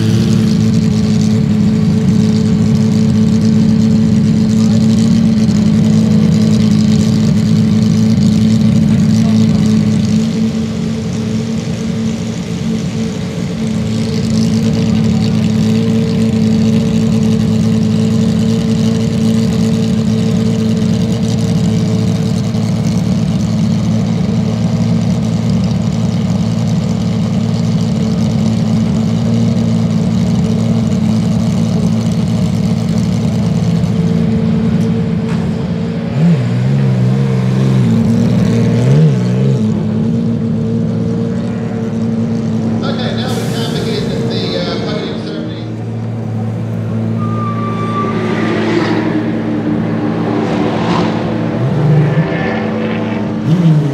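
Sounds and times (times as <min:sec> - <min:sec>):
engine revving: 0:00.0 - 0:24.8, 0:33.4 - 0:53.9
racing car engine idling: 0:00.0 - 0:53.9.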